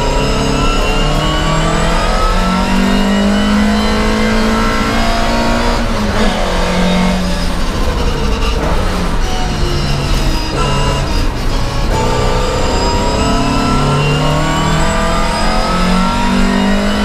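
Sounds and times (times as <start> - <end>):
racing car engine accelerating: 0.0 - 17.0.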